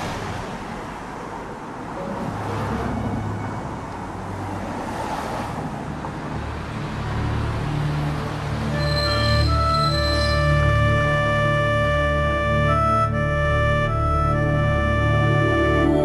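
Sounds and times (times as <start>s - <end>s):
road traffic hiss: 0.0s - 12.8s.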